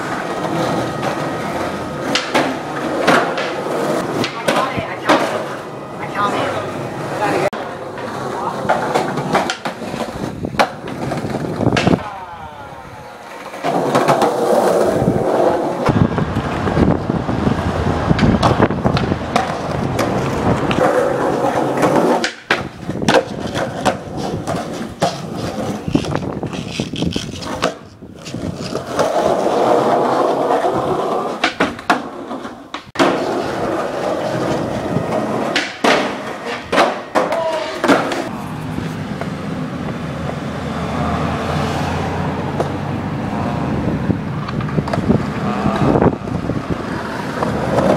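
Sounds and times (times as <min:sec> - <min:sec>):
skateboard popping and landing clacks: 0:00.0 - 0:05.7, 0:07.6 - 0:12.3, 0:13.2 - 0:17.1, 0:18.1 - 0:38.4, 0:42.5 - 0:42.8, 0:44.3 - 0:47.9
skateboard wheels rolling on concrete: 0:00.0 - 0:47.9.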